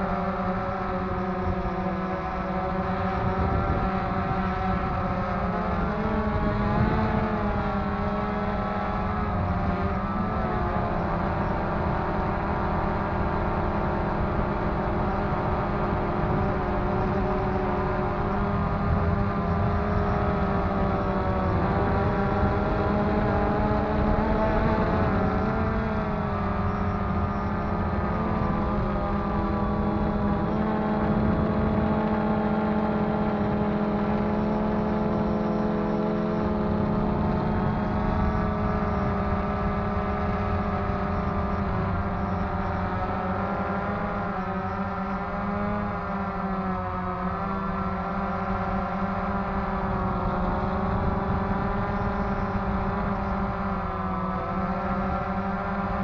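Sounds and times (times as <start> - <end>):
drone propellers whining: 0.0 - 56.0
wind rumble: 0.0 - 56.0.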